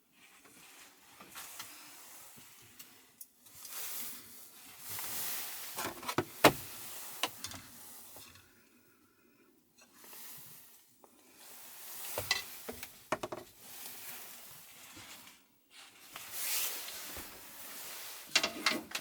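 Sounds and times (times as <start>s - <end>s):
rustling handling noises: 0.1s - 8.6s, 11.2s - 19.0s.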